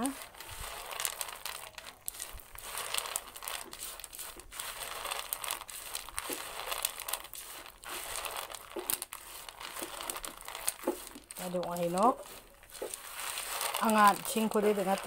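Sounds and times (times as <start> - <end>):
chickpeas rustling on plate: 0.0 - 15.0.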